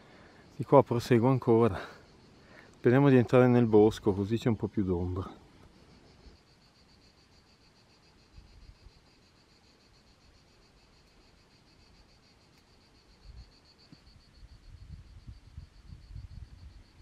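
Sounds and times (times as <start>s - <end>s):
insect pulsing chirr: 0.0s - 17.0s.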